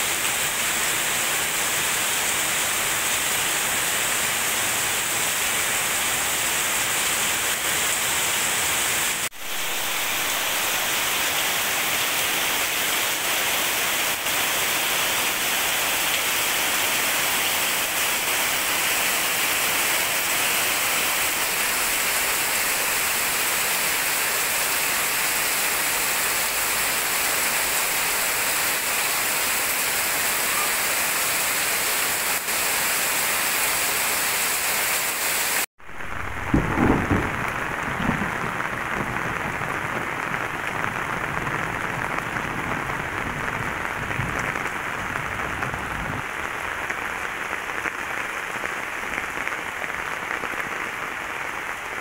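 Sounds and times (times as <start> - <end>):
heavy rain on leaves and ground: 0.0 - 52.0.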